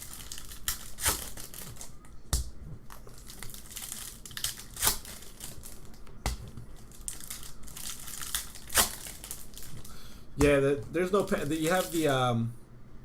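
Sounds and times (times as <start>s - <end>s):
wrappers crinkling and tearing: 0.0s - 2.1s, 2.8s - 10.0s, 10.9s - 12.2s.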